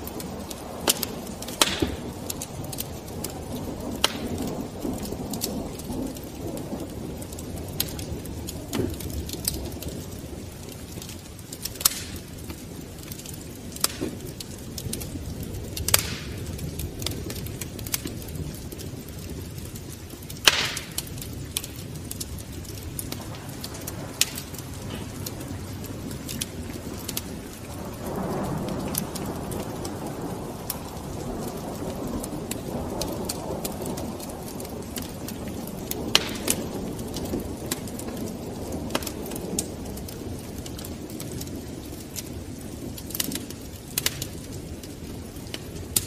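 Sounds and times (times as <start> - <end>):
rushing flames: 0.0 - 46.0
sharp pops of fire: 0.0 - 46.0
wood fire crackling: 0.0 - 46.0.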